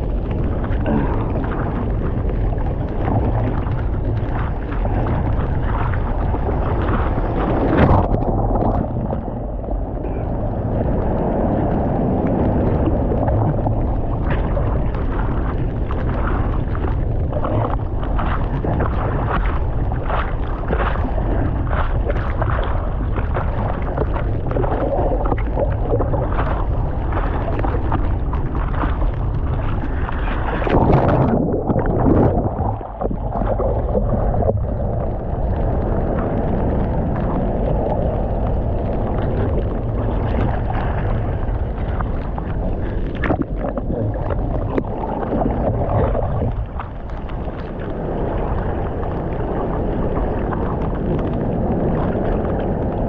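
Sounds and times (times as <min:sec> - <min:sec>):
surf water rushing and sloshing: 0:00.0 - 0:53.0
wind buffeting microphone: 0:00.0 - 0:53.0.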